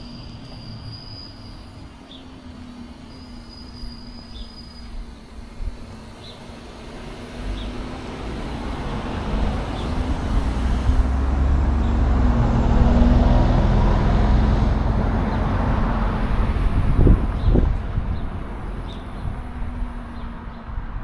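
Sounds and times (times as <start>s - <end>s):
motor vehicle passing: 1.4s - 21.0s.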